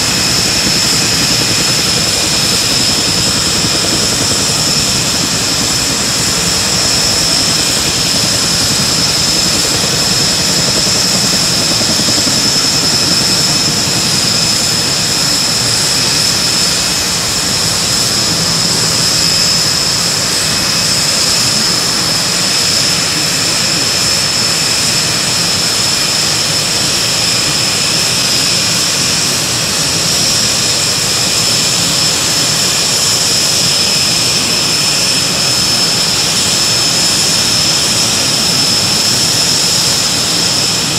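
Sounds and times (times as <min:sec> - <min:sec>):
turbine engine whine: 0:00.0 - 0:40.9.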